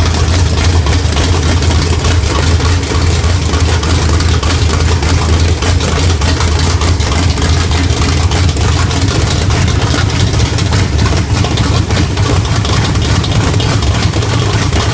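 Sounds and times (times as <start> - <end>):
engine idling rough: 0.0 - 14.9.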